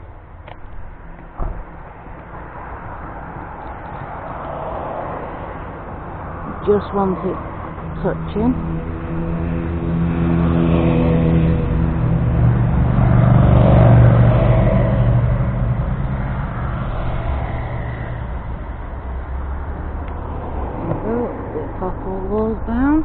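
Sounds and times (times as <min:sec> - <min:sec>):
vehicle driving past: 0:00.0 - 0:23.0.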